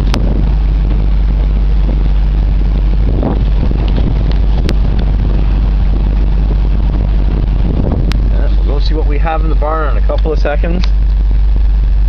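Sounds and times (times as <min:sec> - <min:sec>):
pickup truck engine running: 0:00.0 - 0:12.0
wind rumble on microphone: 0:00.0 - 0:12.0.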